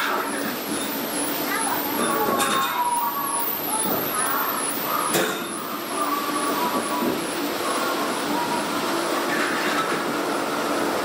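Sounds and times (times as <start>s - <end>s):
ride vehicle rumbling: 0.0s - 11.0s.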